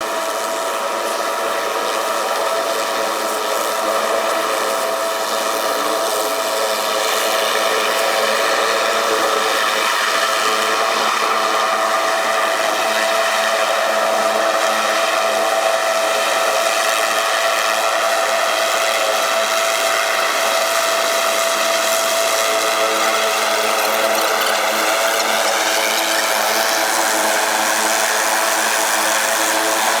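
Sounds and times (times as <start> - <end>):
mechanical drone with high whine: 0.8 - 30.0.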